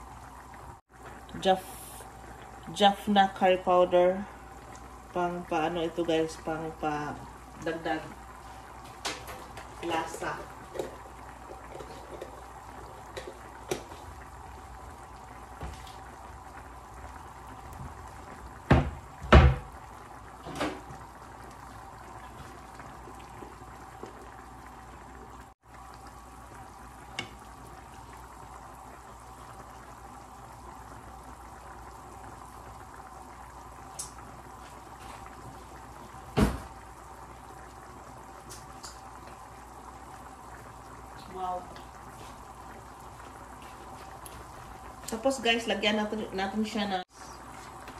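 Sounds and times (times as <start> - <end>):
broth simmering in a pan: 0.0 - 47.9.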